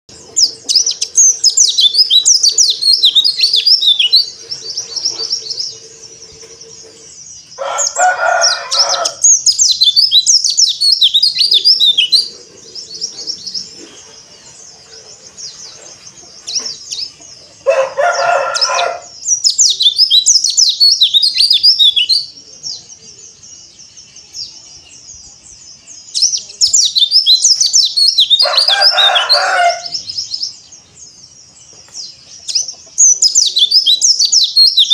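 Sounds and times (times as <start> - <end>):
bird twittering high phrases: 0.1 - 34.9.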